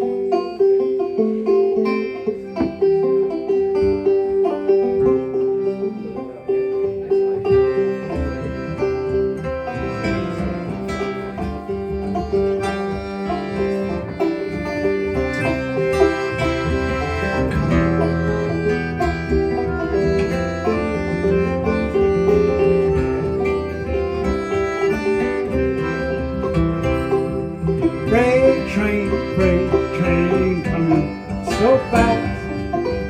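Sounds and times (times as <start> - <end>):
accordion tones: 0.0 - 33.0
acoustic guitar: 0.0 - 33.0
plucked banjo: 0.0 - 33.0.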